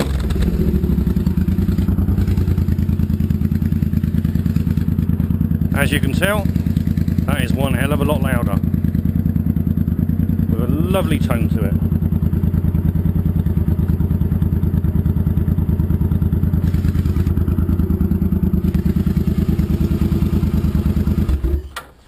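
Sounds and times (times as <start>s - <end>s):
motorcycle engine running: 0.0s - 21.7s.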